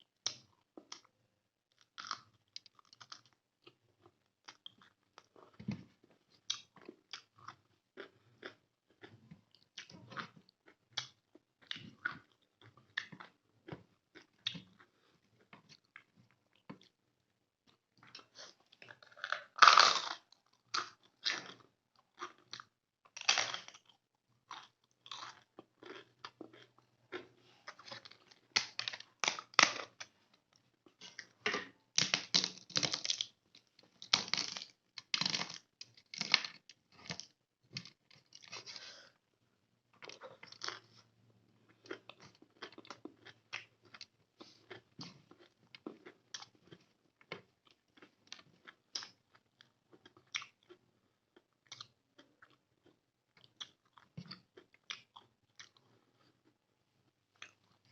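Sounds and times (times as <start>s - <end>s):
person chewing food: 1.7s - 17.0s, 17.6s - 39.2s, 40.0s - 56.6s.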